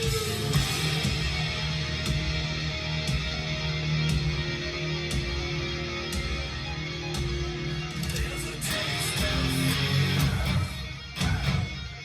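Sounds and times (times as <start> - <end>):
electric guitar playing: 0.0 - 12.0.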